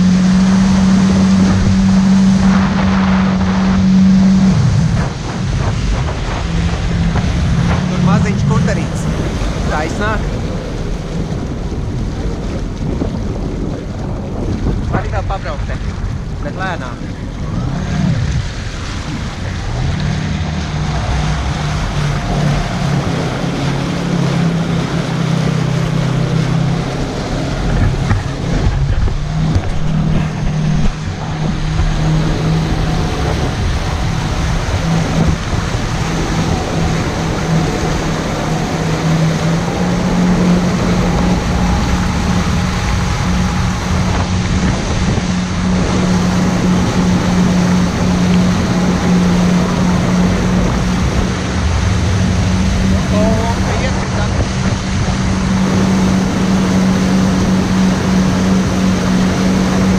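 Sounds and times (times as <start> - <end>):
personal watercraft engine running: 0.0 - 59.9
water rushing: 0.0 - 59.9
wind: 0.0 - 59.9.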